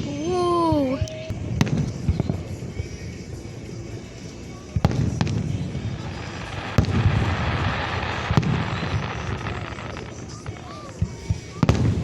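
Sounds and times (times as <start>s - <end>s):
firework bangs: 0.0s - 12.0s
fireworks crackling: 0.0s - 12.0s.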